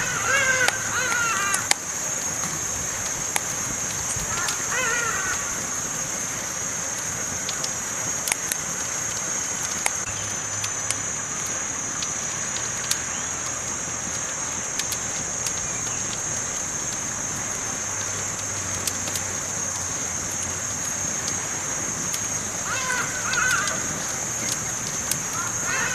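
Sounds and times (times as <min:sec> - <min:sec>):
campfire crackling and hissing: 0:00.0 - 0:25.9.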